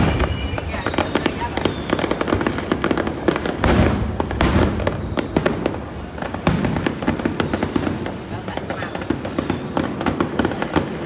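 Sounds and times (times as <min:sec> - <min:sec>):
fireworks crackling pops: 0:00.0 - 0:11.0
loud firework bursts: 0:00.0 - 0:11.0.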